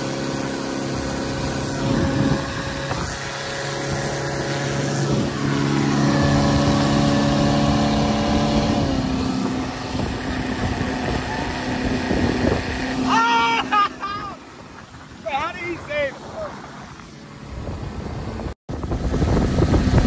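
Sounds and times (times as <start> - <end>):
outboard motor running: 0.0 - 20.0
water rushing: 0.0 - 20.0
wind: 0.0 - 20.0.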